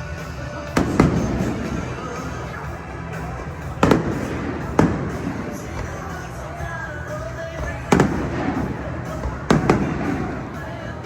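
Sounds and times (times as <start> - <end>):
music: 0.0 - 11.0
fireworks bursting bangs: 0.6 - 11.0.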